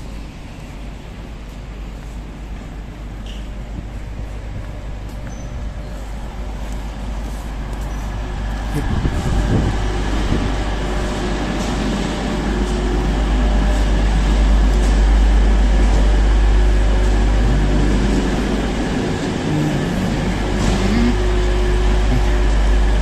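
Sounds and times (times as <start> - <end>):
trains idling rumble and hum: 0.0 - 23.0.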